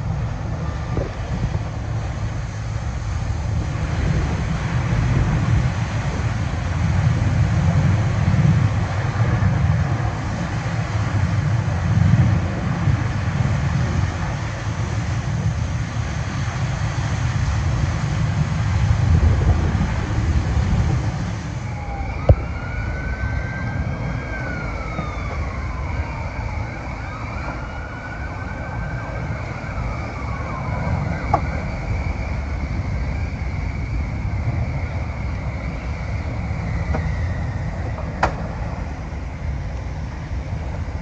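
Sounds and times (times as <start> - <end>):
distant siren wailing: 0.0 - 41.0
low rumble of fire: 0.0 - 41.0.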